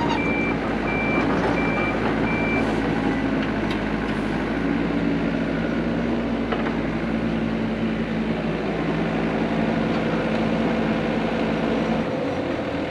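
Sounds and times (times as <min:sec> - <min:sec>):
heavy equipment engine running: 0:00.0 - 0:12.9.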